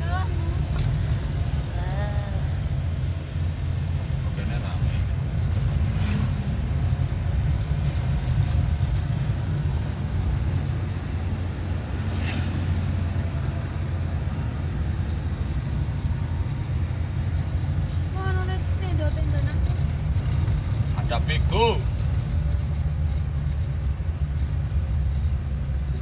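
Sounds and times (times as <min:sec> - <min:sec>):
car engine running: 0:00.0 - 0:26.0
road noise rumble: 0:00.0 - 0:26.0.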